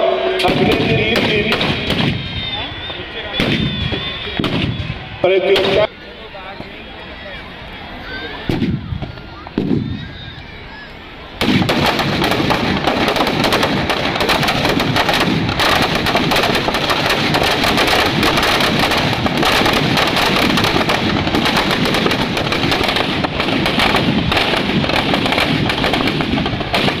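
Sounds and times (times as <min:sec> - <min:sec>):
firecrackers crackling rapidly: 0:00.4 - 0:06.8, 0:07.9 - 0:10.4, 0:11.1 - 0:27.0.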